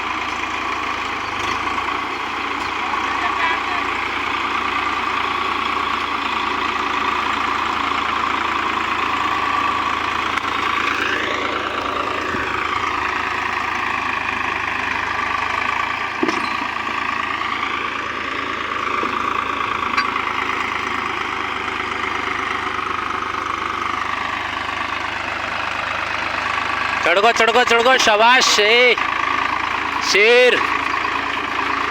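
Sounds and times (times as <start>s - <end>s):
tractor engine labouring: 0.0s - 31.9s.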